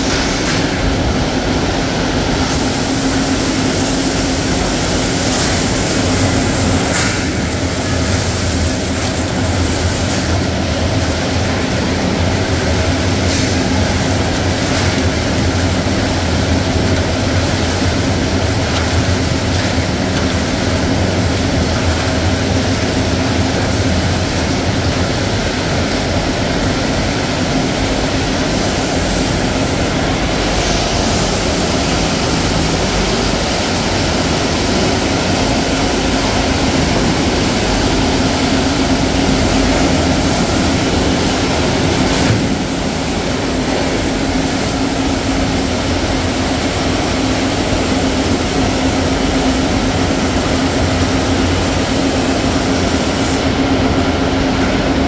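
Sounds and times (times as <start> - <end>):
processing machinery drone: 0.0 - 55.0.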